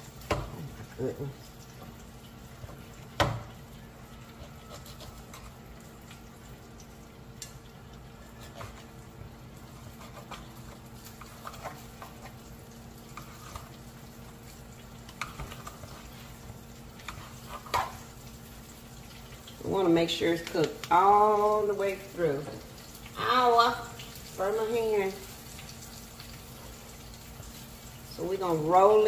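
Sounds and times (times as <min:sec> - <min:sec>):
food frying in butter: 0:00.0 - 0:29.0.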